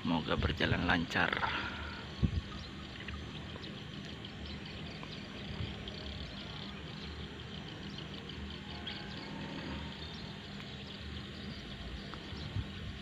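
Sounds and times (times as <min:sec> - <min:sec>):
low uneven rumble: 0:00.2 - 0:13.0.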